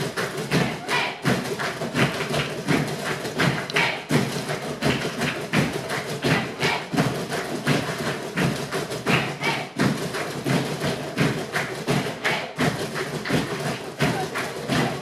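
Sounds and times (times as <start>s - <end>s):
box drums playing rhythm: 0.0s - 15.0s.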